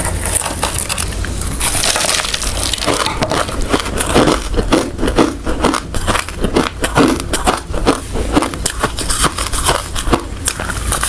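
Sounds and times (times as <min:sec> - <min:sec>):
person crunching ice: 0:00.0 - 0:11.0.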